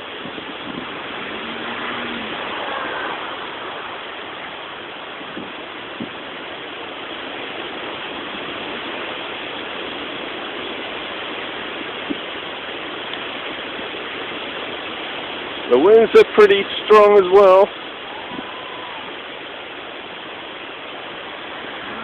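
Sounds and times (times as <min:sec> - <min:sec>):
strong storm wind rushing: 0:00.0 - 0:16.1, 0:17.4 - 0:19.4, 0:20.2 - 0:22.0.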